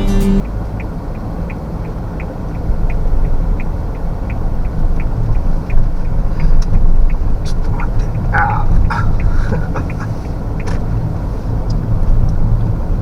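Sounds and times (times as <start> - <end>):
road rumble inside a car: 0.0 - 13.0
faint regular ticking: 0.4 - 12.8.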